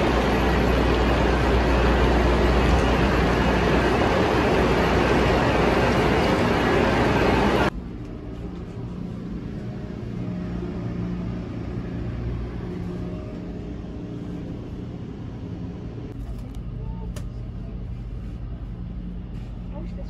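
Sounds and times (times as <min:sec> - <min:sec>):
train carriage hum: 0:00.0 - 0:20.0.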